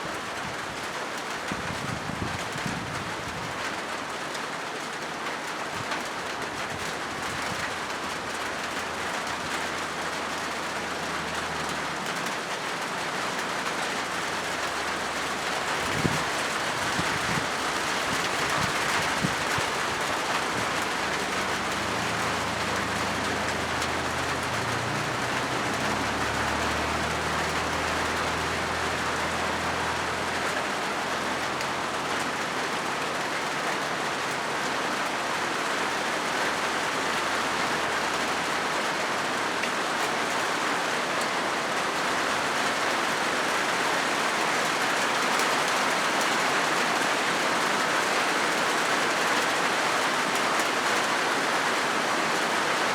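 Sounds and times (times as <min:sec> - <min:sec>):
heavy rain on a metal roof: 0:00.0 - 0:52.9.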